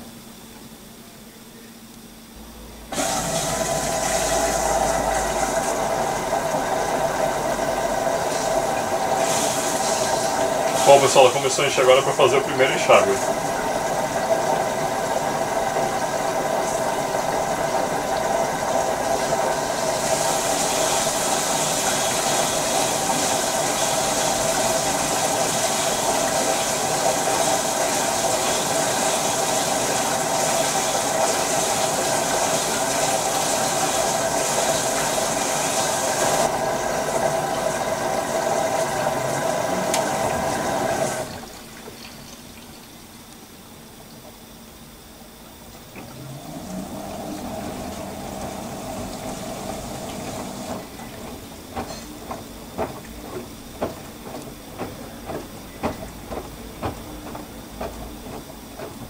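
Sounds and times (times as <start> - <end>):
washing machine hum: 0.0 - 59.0
water rushing into washer drum: 2.9 - 44.5, 45.6 - 59.0.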